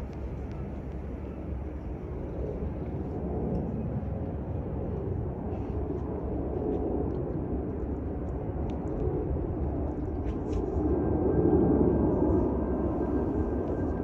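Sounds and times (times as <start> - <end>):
airliner low rumble: 0.0 - 14.0.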